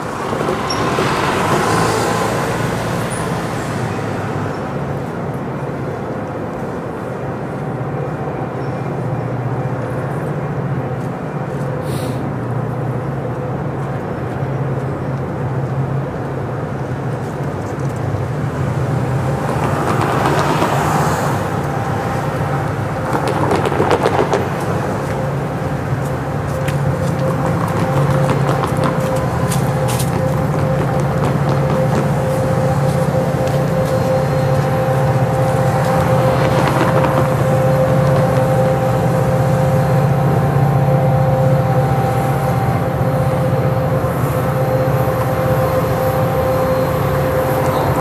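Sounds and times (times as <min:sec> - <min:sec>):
locomotive low drone: 0:00.0 - 0:48.0
train noise: 0:00.0 - 0:48.0.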